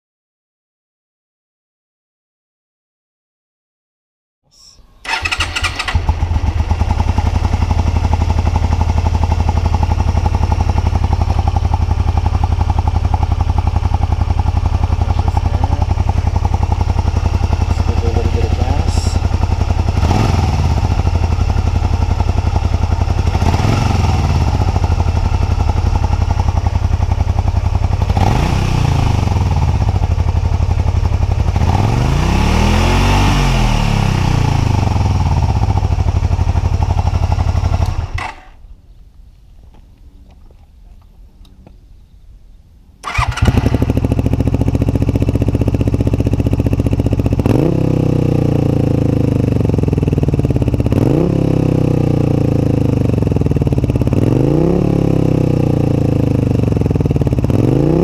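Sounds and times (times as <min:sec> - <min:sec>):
motorcycle throttle blips: 0:04.5 - 0:32.1, 0:34.8 - 0:41.8, 0:43.0 - 0:58.0
motorcycle engine idling: 0:05.0 - 0:31.9, 0:34.2 - 0:39.0, 0:43.0 - 0:58.0.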